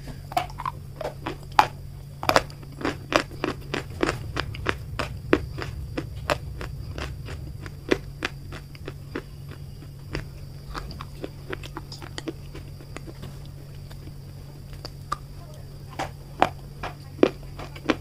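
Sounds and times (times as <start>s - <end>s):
person chewing crunchy clay: 0.1s - 15.2s.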